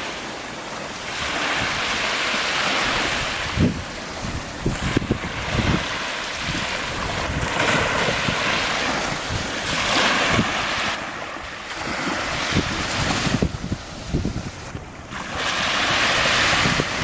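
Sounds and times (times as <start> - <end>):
sea waves washing in: 0.0 - 17.0
wind buffeting microphone: 1.2 - 17.0.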